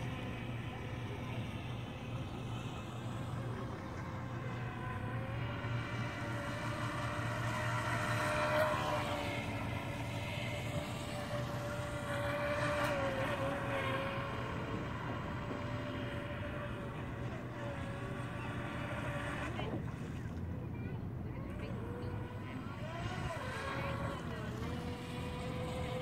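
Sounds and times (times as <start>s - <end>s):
rc speedboat motor whining: 0.0s - 26.0s.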